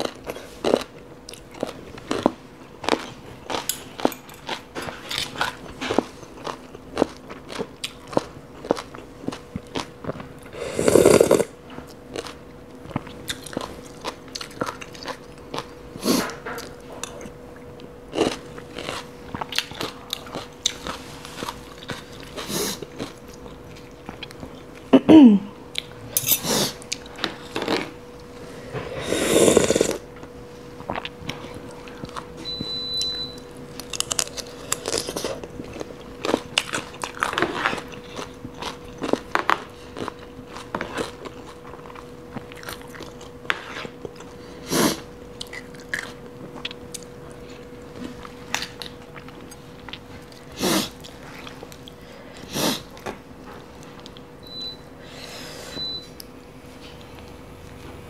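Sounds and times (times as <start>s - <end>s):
chewing and crunching food: 0.0s - 25.0s, 25.6s - 54.3s.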